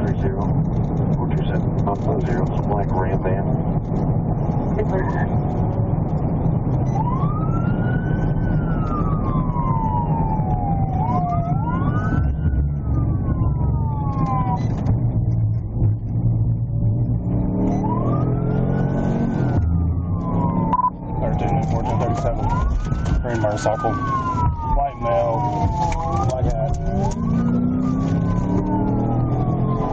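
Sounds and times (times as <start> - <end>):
car engine and road noise: 0.0 - 29.9
police siren wailing: 4.4 - 15.8, 16.4 - 29.9.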